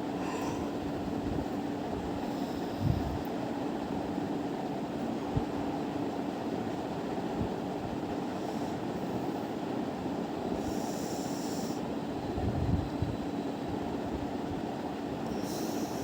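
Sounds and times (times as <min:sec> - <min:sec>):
electric fan whirring: 0:00.0 - 0:16.0.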